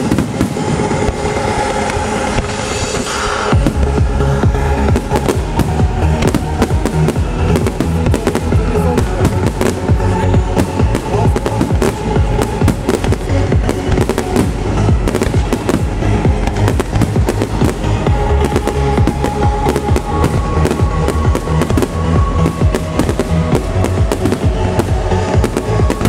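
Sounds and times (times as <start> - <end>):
fireworks bangs and crackles: 0.0 - 26.0
trance music over loudspeakers: 0.0 - 26.0.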